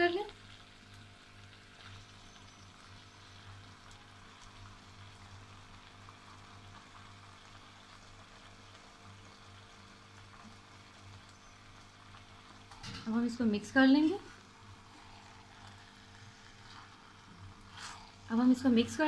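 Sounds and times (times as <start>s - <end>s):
sauce sizzling in a wok: 0.0s - 19.0s.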